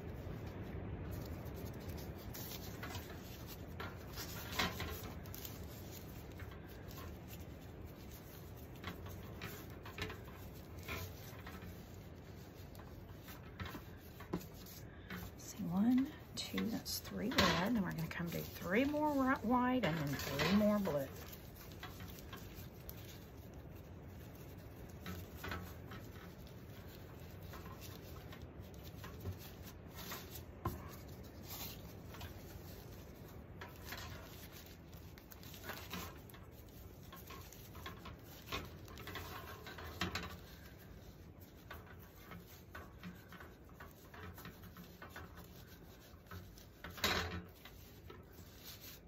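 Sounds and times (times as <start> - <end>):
plastic strips crinkling: 0.0 - 49.0.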